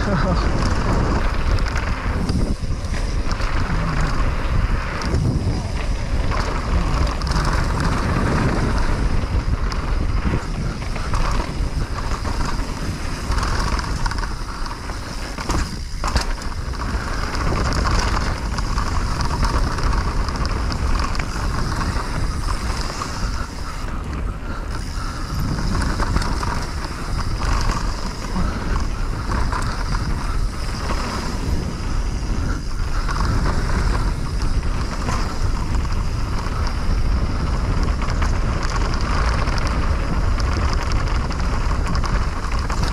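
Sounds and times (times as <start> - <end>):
bike rattles and clicks: 0.0 - 42.9
rolling tyre noise: 0.0 - 42.9
wind rushing over microphone: 0.0 - 42.9.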